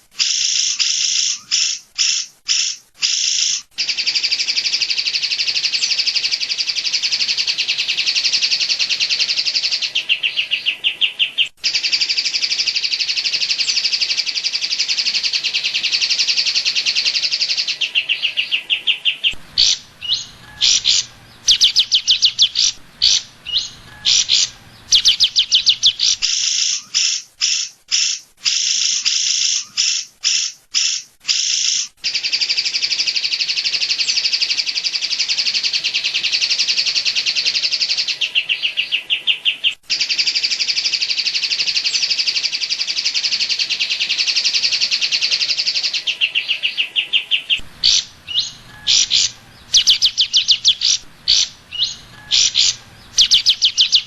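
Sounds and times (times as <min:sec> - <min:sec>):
bird singing rapid high notes: 0:00.2 - 0:35.3, 0:45.7 - 0:54.0.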